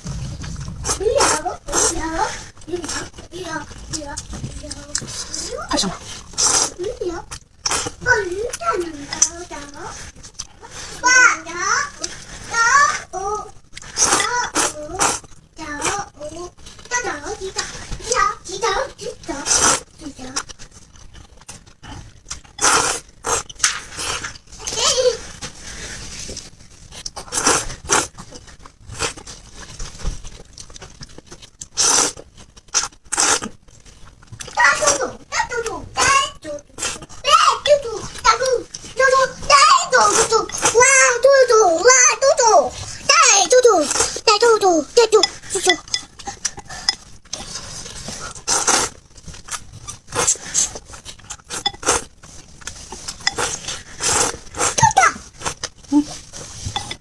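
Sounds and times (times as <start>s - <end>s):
slurping and chewing noodles: 0.0s - 57.0s.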